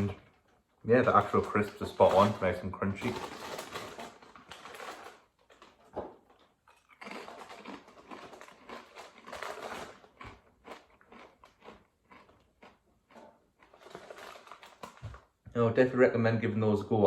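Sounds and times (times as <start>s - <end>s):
crisps being crunched: 0.0s - 15.4s.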